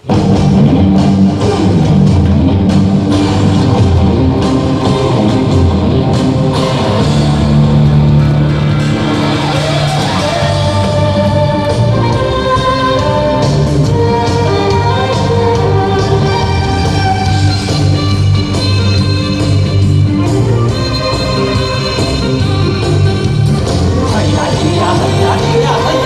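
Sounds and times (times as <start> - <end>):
instrumental band music: 0.0 - 26.0.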